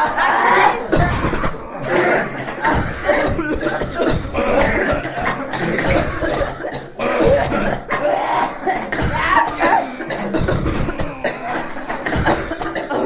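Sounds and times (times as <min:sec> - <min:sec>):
people coughing: 0:00.0 - 0:13.0.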